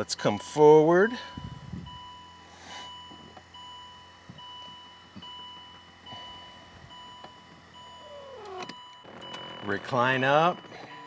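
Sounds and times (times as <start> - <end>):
car warning chime: 0.0 - 11.0.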